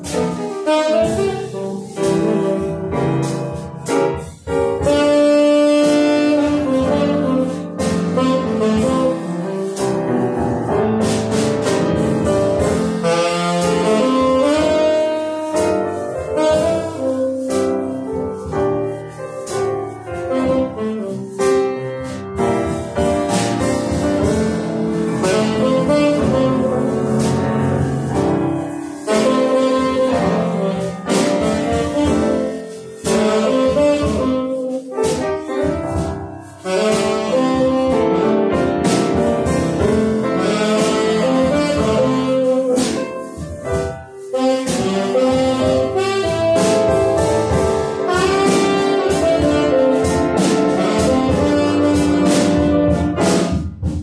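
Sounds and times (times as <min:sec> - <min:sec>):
tenor saxophone ballad: 0:00.0 - 0:53.5
drums keeping time: 0:00.0 - 0:54.0
piano chords: 0:00.0 - 0:54.0.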